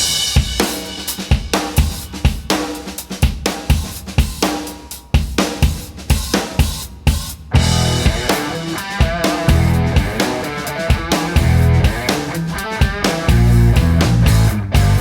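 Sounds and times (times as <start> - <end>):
music with drum beat: 0.0 - 15.0.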